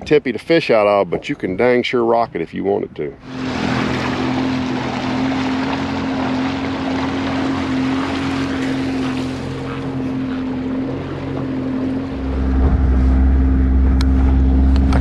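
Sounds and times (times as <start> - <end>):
wind: 0.0 - 15.0
outboard motor running: 2.9 - 15.0.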